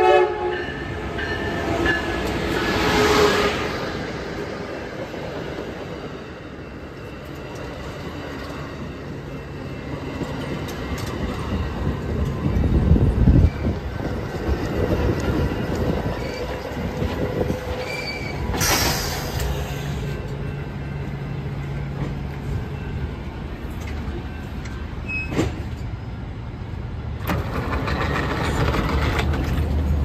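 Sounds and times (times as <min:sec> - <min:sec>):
train engine rumble and hum: 0:00.0 - 0:30.0.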